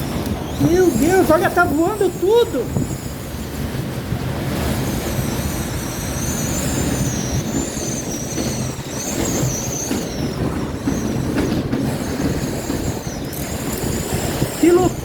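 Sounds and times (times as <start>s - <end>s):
high wind whistle: 0.0s - 15.0s
storm wind rushing and rumbling: 0.0s - 15.0s.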